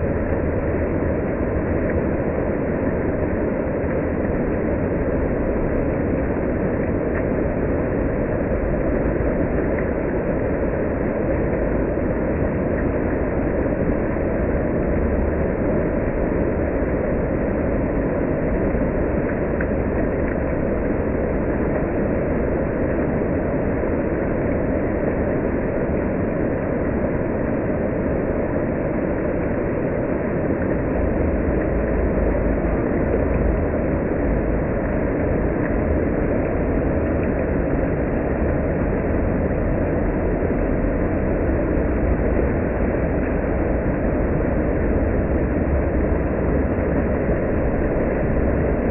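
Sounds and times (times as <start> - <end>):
water fountain jets splashing: 0.0 - 48.9.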